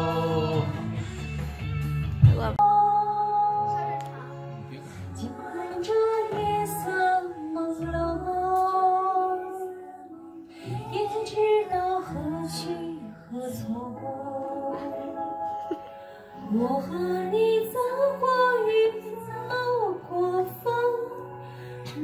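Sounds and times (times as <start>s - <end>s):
karaoke backing track: 0.0s - 22.0s
woman singing karaoke: 2.2s - 4.4s, 5.0s - 22.0s.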